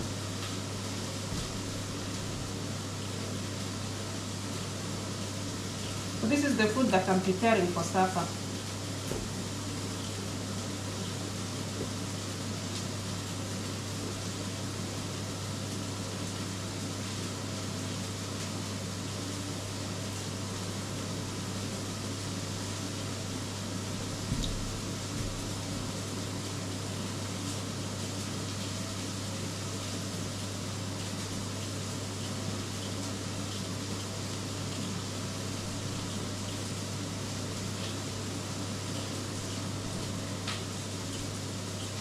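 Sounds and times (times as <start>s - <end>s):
low hum with hiss: 0.0s - 42.0s.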